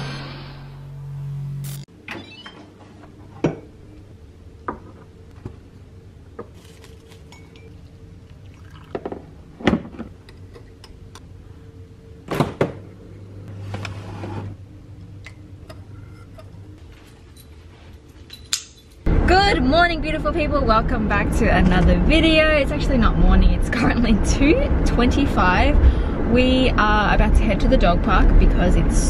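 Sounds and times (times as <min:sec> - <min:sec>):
steady low hum: 0:00.0 - 0:02.0, 0:02.8 - 0:29.0.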